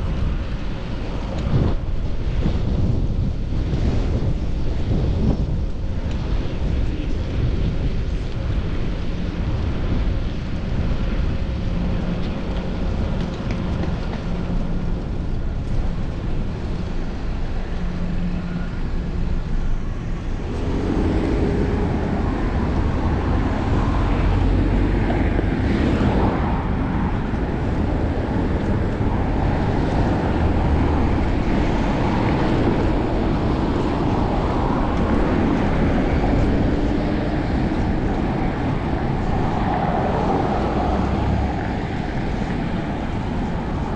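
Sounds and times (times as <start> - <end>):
bicycle tyre noise: 0.0 - 43.9
passing cars: 0.0 - 43.9
wind on microphone: 0.0 - 43.9.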